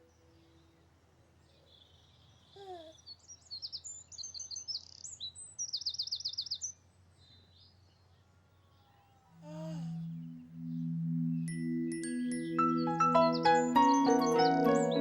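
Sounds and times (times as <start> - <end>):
songbird chirping and trilling: 0.0 - 15.0.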